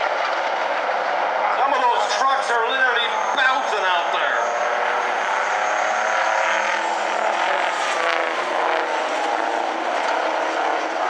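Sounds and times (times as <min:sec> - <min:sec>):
diesel truck engines racing: 0:00.0 - 0:11.0.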